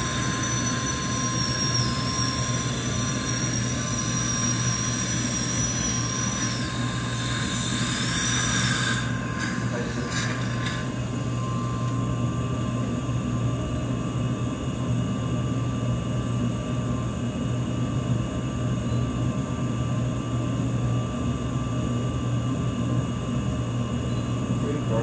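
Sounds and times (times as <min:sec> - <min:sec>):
low hum of equipment: 0:00.0 - 0:25.0.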